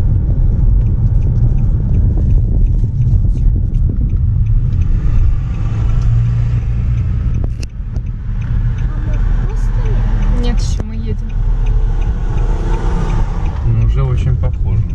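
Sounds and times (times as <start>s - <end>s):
car road and engine rumble: 0.0s - 14.9s.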